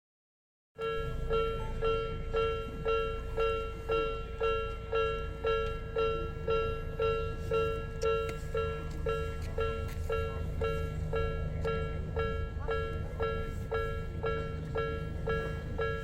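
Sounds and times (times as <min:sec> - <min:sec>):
level crossing warning bell: 0:00.8 - 0:16.0
low steady rumble: 0:00.8 - 0:16.0.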